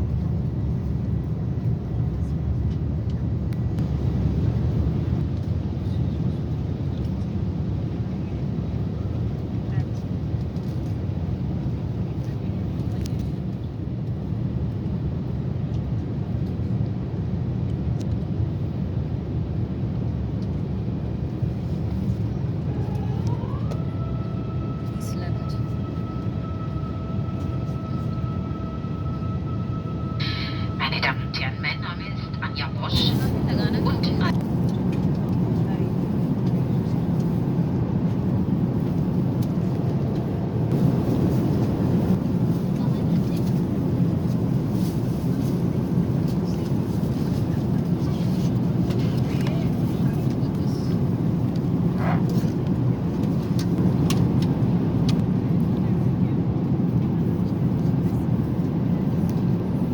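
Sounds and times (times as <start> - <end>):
aircraft cabin engine drone: 0.0 - 59.9.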